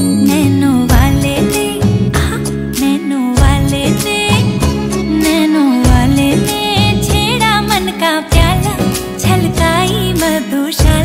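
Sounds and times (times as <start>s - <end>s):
film-style song with bass beat: 0.0s - 11.0s.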